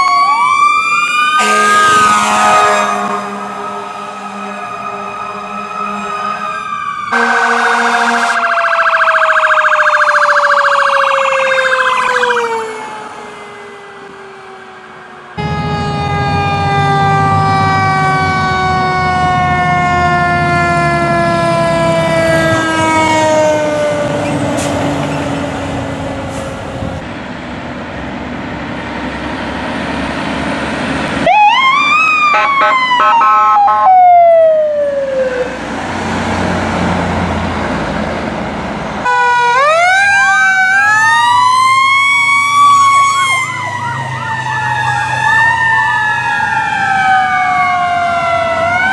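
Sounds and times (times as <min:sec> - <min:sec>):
fire engine siren: 0:00.0 - 0:48.9
truck engine rumble: 0:00.0 - 0:48.9.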